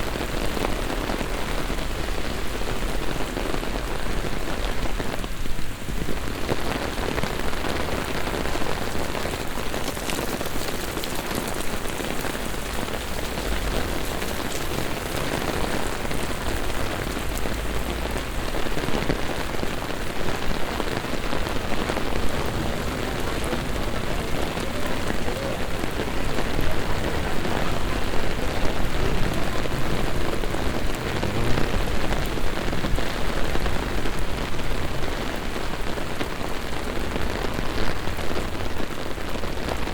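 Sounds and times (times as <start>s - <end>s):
heavy rain pouring on streets: 0.0s - 39.9s.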